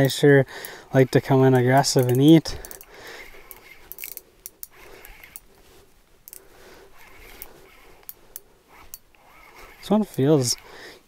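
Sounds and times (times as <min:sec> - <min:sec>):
fishing reel gears clicking: 0:00.0 - 0:05.5, 0:06.2 - 0:10.8.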